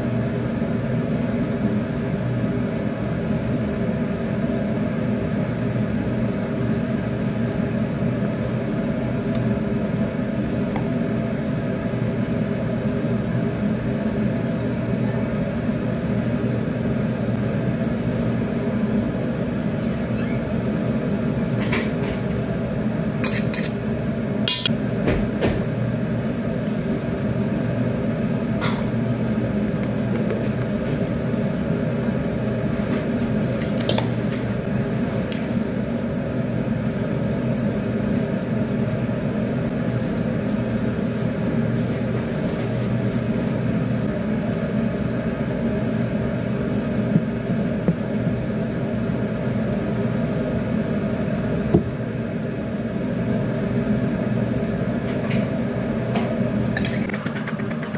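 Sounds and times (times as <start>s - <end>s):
appliance fan humming: 0.0s - 57.9s.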